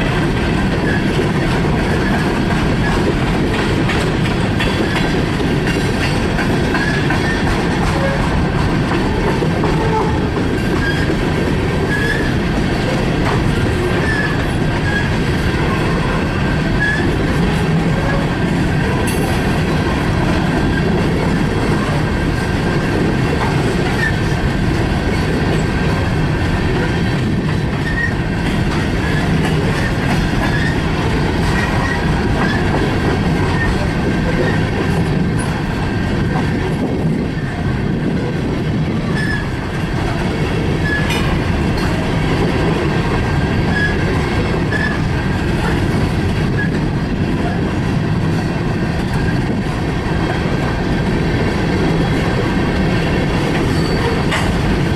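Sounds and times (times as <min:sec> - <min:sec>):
freight train cars rumbling past: 0:00.0 - 0:54.9.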